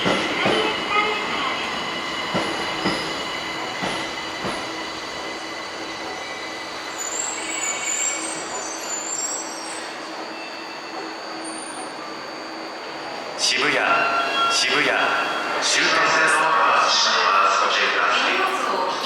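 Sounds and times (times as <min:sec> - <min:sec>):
train hum: 0:00.0 - 0:19.0
high wheel squeal: 0:00.7 - 0:16.1.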